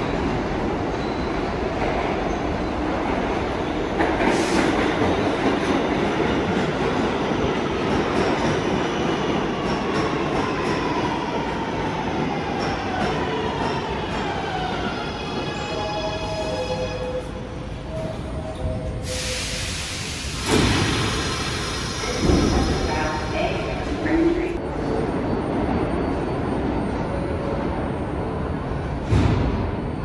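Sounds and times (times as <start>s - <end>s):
train wheel and rail rumble: 0.0s - 30.0s.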